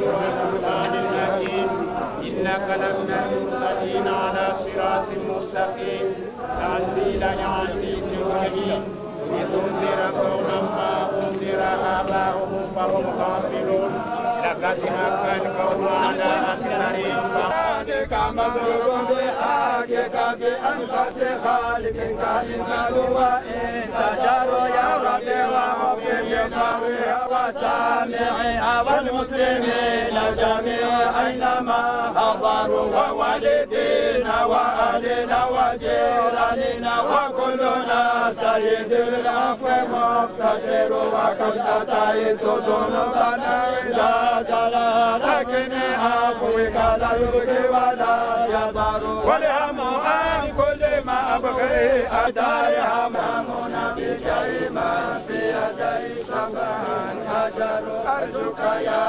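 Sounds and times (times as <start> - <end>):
men chanting together: 0.0 - 59.0.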